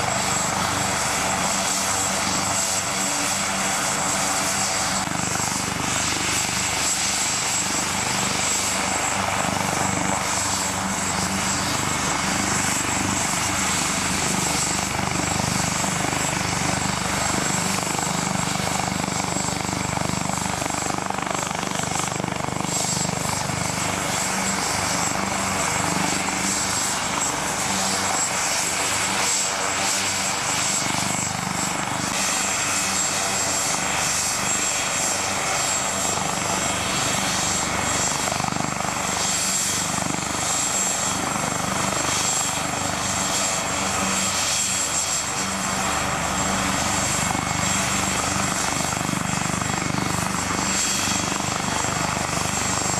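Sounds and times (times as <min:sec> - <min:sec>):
helicopter rotor and engine noise: 0:00.0 - 0:52.9
high turbine whine: 0:00.0 - 0:52.9.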